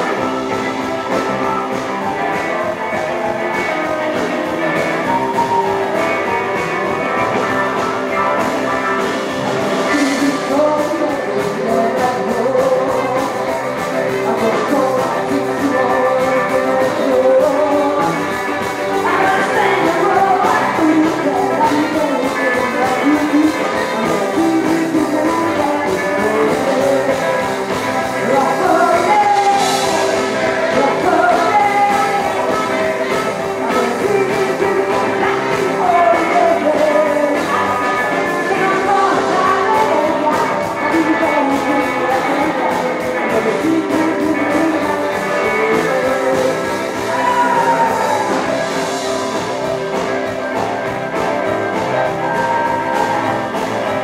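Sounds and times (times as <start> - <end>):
live rockabilly band playing: 0.0 - 54.0
person singing: 0.0 - 54.0.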